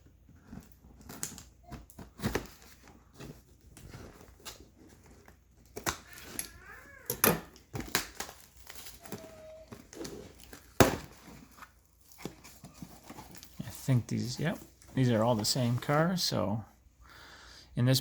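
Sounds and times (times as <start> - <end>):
packaging crinkling and tearing: 0.5 - 15.4.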